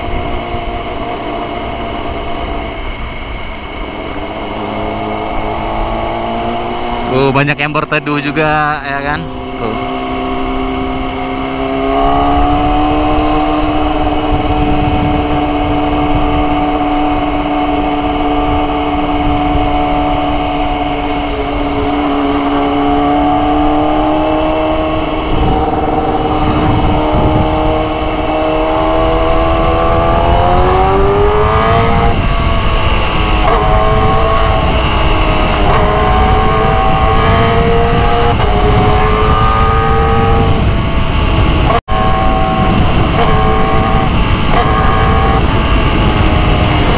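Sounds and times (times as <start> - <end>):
motorcycle engine running: 0.0 - 46.9
road rumble: 0.0 - 46.9
rough wind: 0.0 - 46.9.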